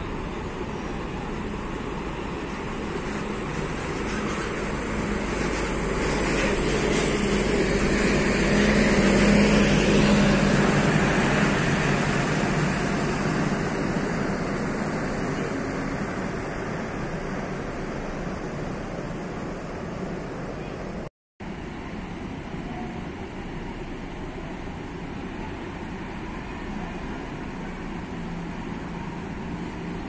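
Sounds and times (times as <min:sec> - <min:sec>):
bus diesel engine passing: 0:00.0 - 0:30.0.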